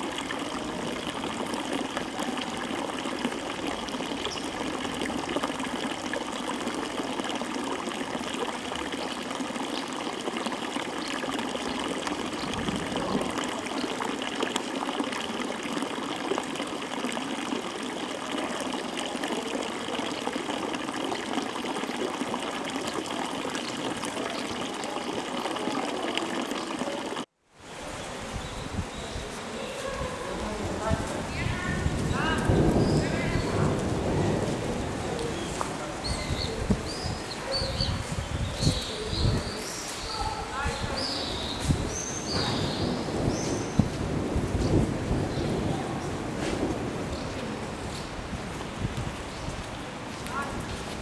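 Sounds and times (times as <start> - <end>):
steady rain: 0.0 - 51.0
trickling running water: 0.0 - 51.0.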